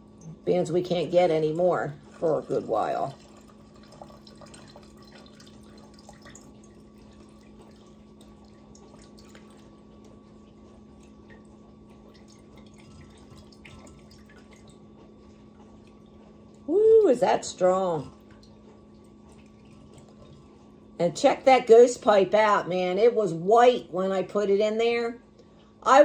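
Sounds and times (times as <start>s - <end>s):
liquid dripping and trickling: 0.0s - 21.0s.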